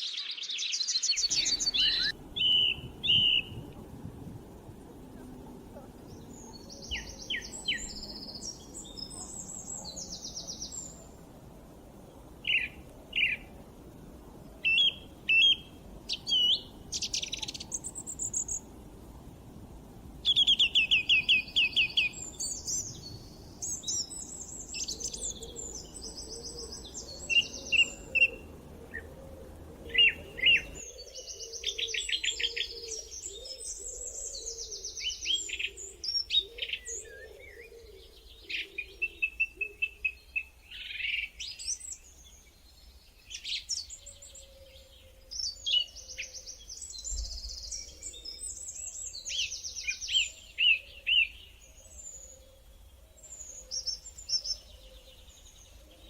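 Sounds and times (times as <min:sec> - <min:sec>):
songbirds chirping and trilling: 0:00.0 - 0:56.0
low steady background noise: 0:00.8 - 0:56.0.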